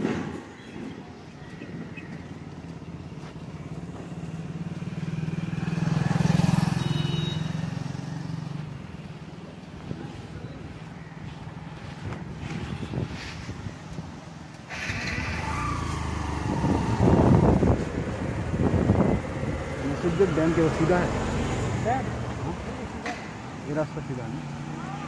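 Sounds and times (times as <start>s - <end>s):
vehicle passing: 2.6s - 13.5s, 14.7s - 25.0s.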